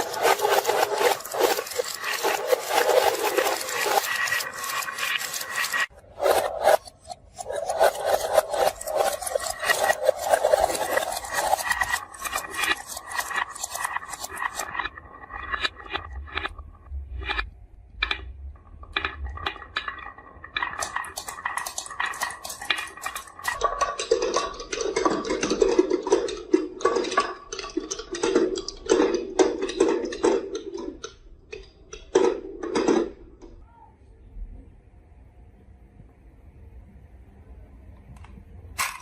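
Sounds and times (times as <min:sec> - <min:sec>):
marbles clacking on marble run: 0:00.0 - 0:16.6, 0:17.2 - 0:33.6.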